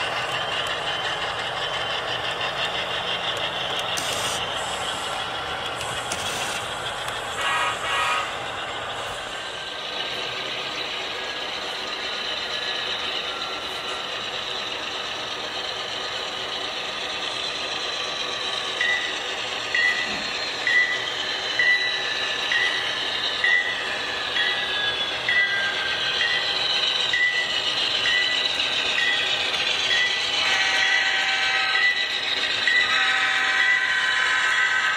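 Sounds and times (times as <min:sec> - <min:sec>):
model locomotive running: 0:00.0 - 0:34.9.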